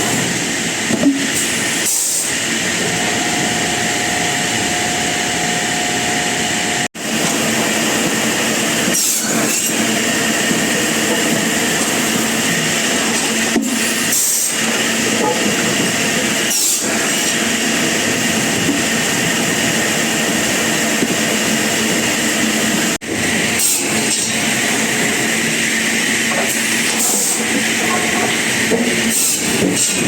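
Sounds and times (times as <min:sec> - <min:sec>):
sawmill machinery humming: 0:00.0 - 0:30.0.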